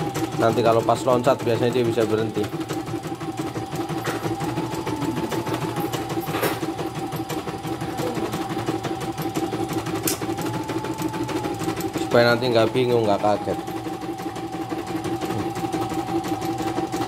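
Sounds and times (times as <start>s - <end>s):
embroidery machine stitching: 0.0s - 17.0s.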